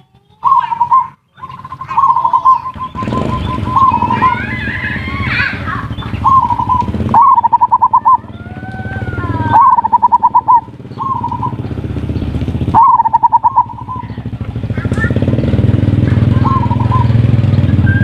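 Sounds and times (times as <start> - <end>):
dove cooing: 0.2 - 18.0.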